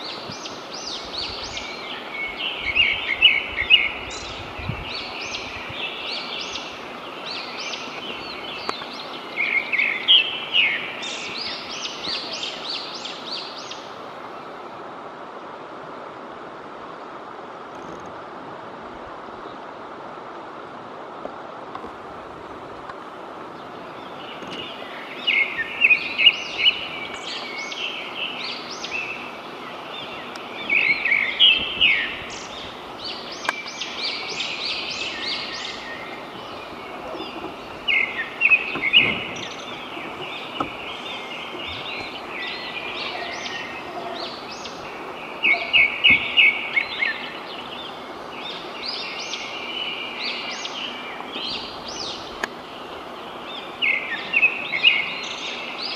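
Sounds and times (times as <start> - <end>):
birds calling: 0.0 - 14.9, 22.8 - 55.9
outdoor ambience hiss: 0.0 - 55.9.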